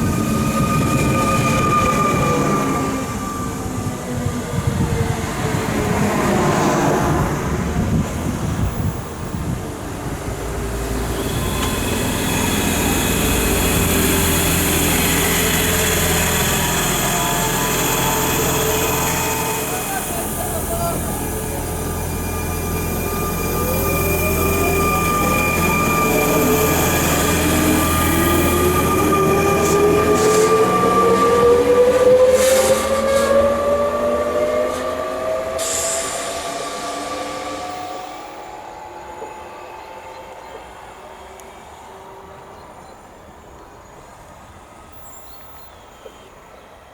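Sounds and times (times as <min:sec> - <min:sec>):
electric train passing: 0:00.0 - 0:46.9
train whine: 0:00.0 - 0:46.9.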